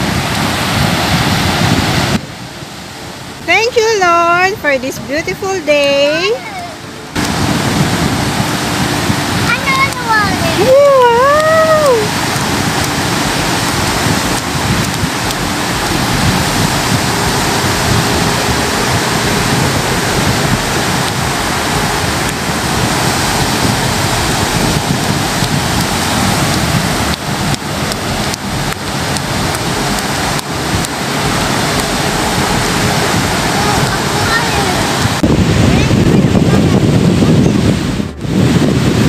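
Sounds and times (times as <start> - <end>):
surf washing on shore: 0.0 - 39.0
wind buffeting microphone: 0.0 - 39.0.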